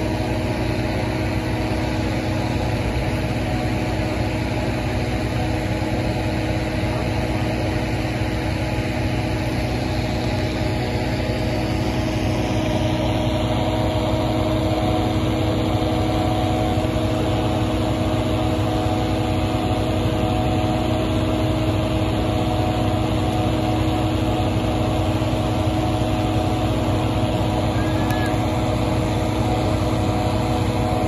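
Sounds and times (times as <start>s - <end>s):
petrol-engine inflator fan running: 0.0s - 31.0s.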